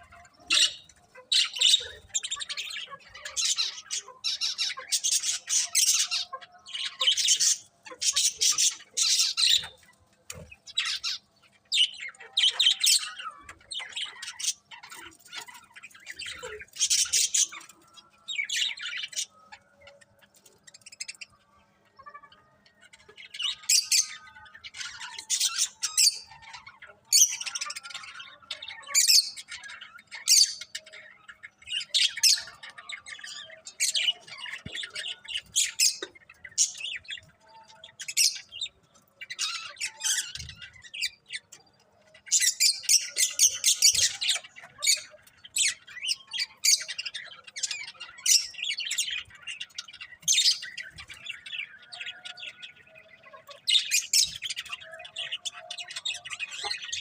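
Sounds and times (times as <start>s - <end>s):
budgies chirping and chattering: 0.0s - 57.0s.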